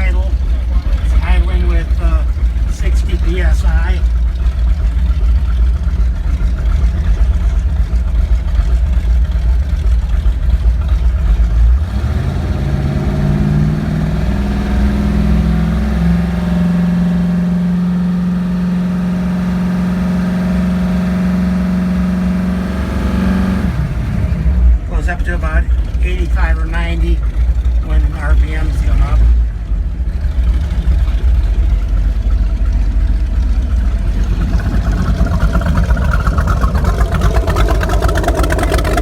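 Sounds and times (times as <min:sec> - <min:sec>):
boat engine rumbling and revving: 0:00.0 - 0:39.0.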